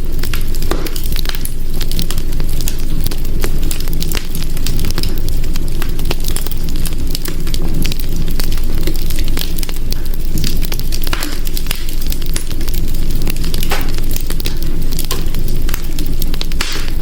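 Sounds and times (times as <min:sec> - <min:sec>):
burning wood popping and snapping: 0:00.0 - 0:17.0
low rumble of flames: 0:00.0 - 0:17.0.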